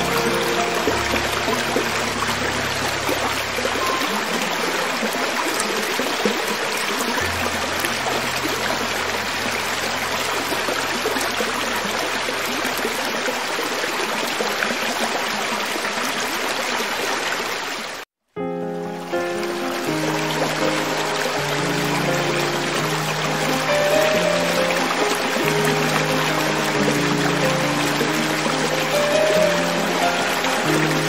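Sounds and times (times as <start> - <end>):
creek water flowing over rocks: 0.0 - 31.0.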